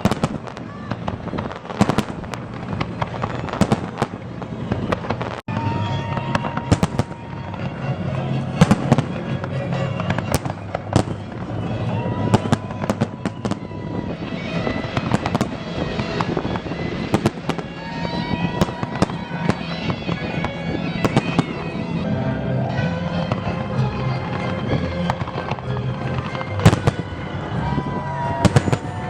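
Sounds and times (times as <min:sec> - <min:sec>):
fireworks bangs and cracks: 0:00.0 - 0:22.1, 0:23.1 - 0:29.0
music playing: 0:04.2 - 0:29.0.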